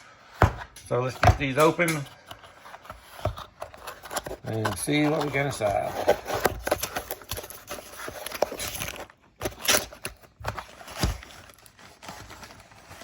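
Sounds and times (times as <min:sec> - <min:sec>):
packaging rustling and crinkling: 0:00.2 - 0:13.0.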